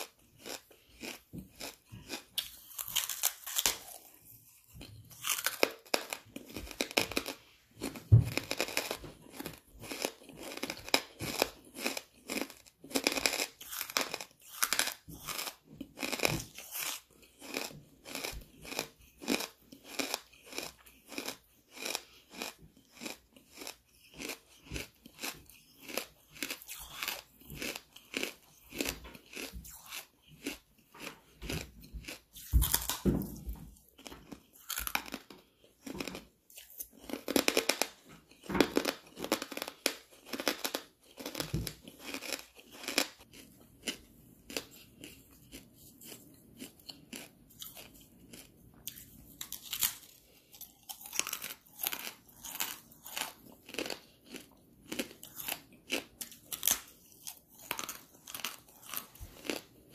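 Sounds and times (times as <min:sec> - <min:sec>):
charcoal crunching between teeth: 0:00.0 - 0:33.0, 0:33.9 - 0:59.9.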